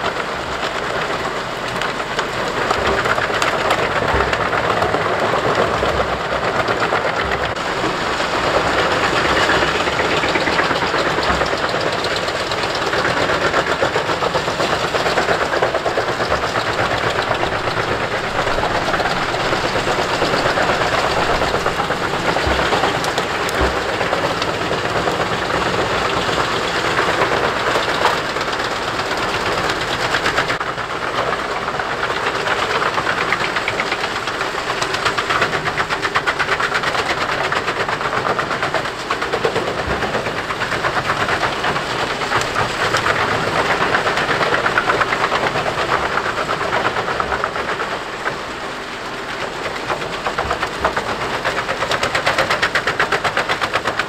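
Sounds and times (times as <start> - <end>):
machine engine running: 0.0 - 54.0
wood chipper crackling clatter: 0.0 - 54.0.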